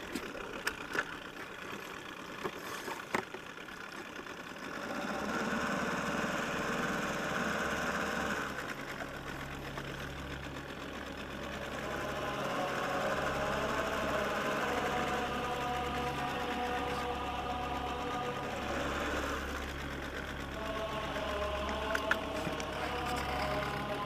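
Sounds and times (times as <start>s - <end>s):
small motor humming: 0.0s - 24.0s.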